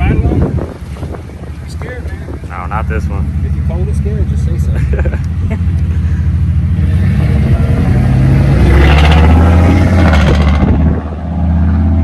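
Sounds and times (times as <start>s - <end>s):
truck engine accelerating hard: 0.1s - 12.0s.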